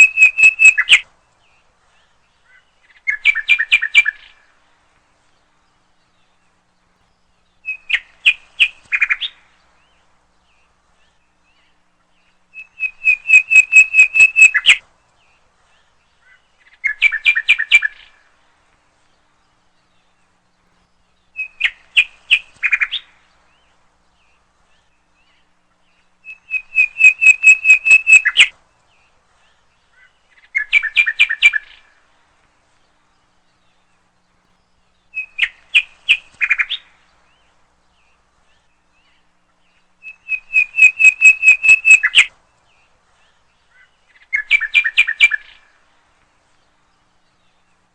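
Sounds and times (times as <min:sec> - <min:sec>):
bird chirping song: 0:00.0 - 0:47.9.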